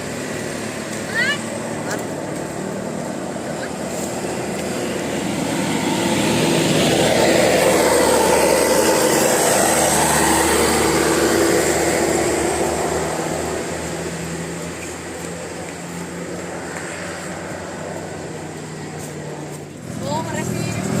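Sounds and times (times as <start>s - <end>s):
bus passing by: 0.0s - 21.0s.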